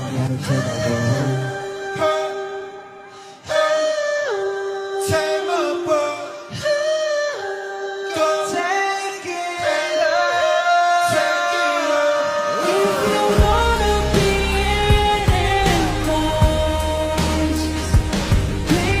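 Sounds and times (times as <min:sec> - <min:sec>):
voices singing in harmony: 0:00.0 - 0:19.0.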